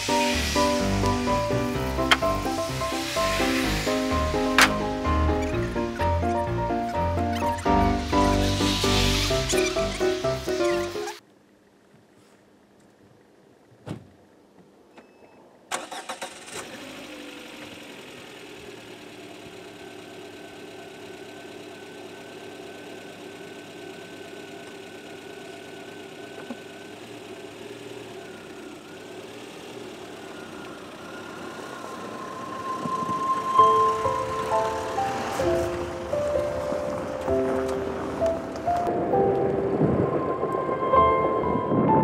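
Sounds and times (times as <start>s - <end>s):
car engine cranking and starting: 0.0s - 11.2s, 15.0s - 40.6s
car engine idling: 0.0s - 11.9s, 15.6s - 40.1s.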